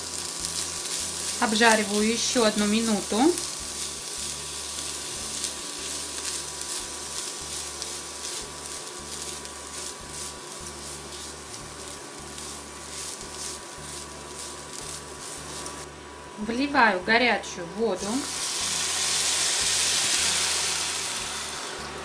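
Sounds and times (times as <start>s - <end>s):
rice sizzling in frying pan: 0.0s - 22.0s.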